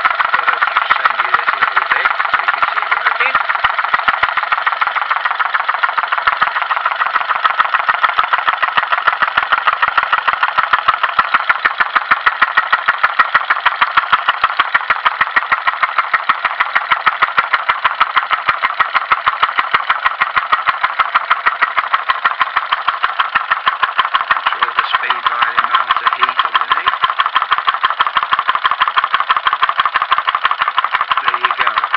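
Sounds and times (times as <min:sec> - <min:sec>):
stirling engine clattering: 0:00.0 - 0:31.9.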